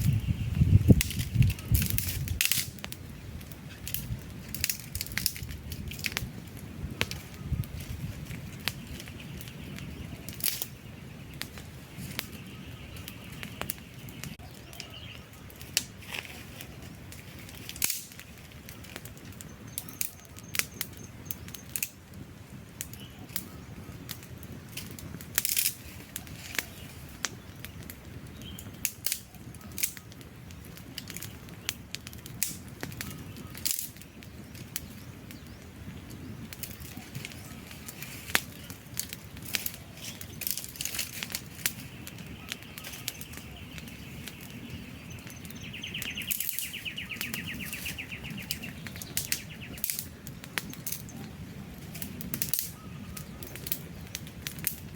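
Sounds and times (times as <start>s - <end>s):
campfire crackling and popping: 0.0s - 54.9s
flames rumbling: 0.0s - 54.9s.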